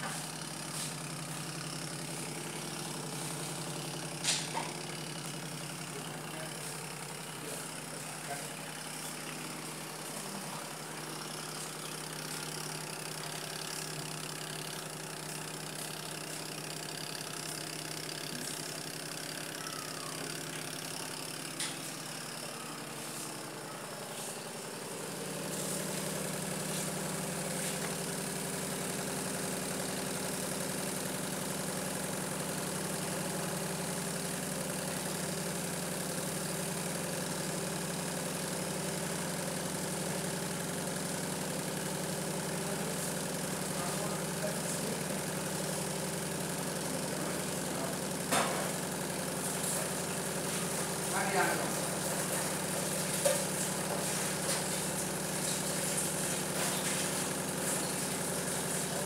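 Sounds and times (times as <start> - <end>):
washing machine motor humming: 0.0 - 59.0.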